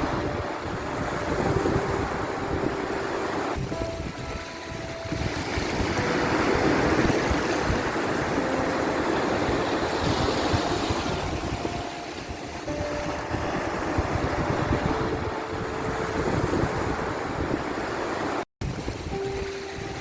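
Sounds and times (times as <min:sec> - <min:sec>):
sea waves washing in: 0:00.0 - 0:20.0
wind noise: 0:00.0 - 0:20.0.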